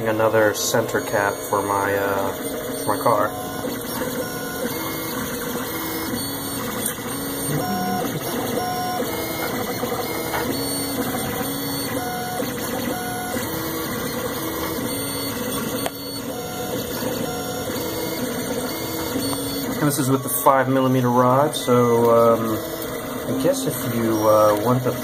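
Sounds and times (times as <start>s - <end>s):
stepper motors whining: 0.3s - 25.0s.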